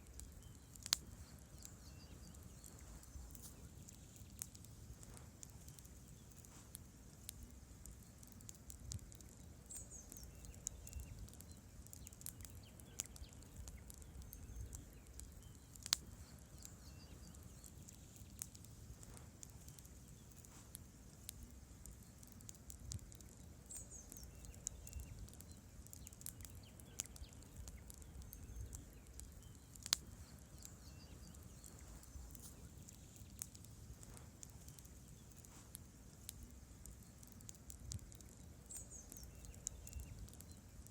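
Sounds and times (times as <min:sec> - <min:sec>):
campfire crackling: 0:00.0 - 0:40.9
sharp wood snaps: 0:00.1 - 0:01.8, 0:02.6 - 0:40.9.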